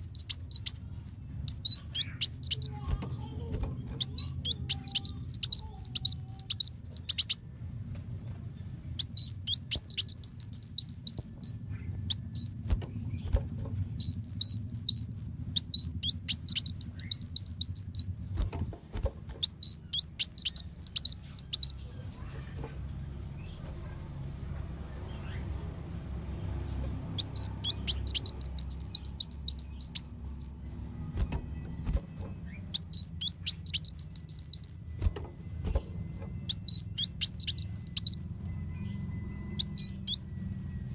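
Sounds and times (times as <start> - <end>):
sunbird chattering song: 0.0 - 7.5, 8.3 - 40.9
faint low hum: 0.0 - 40.9.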